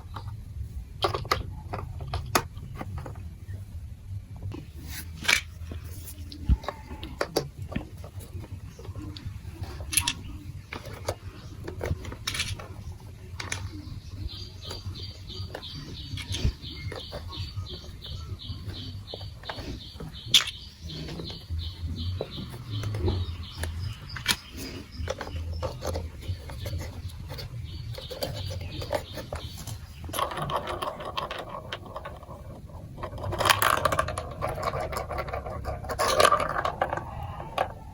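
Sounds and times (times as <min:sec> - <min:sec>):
dense marble rattle: 0:00.0 - 0:03.5, 0:04.5 - 0:37.9
marbles clicking and knocking: 0:06.5 - 0:37.9.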